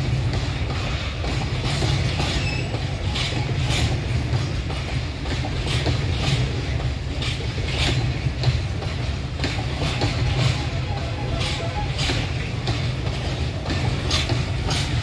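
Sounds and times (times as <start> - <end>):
wagon wheels rumbling on rails: 0.0 - 15.0
wheels clacking over rail joints: 0.0 - 15.0.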